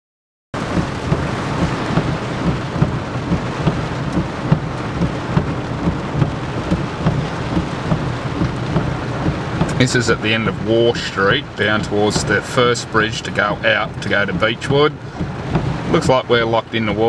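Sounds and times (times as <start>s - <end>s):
low rumble: 0.6s - 16.7s
water rushing: 0.6s - 17.0s.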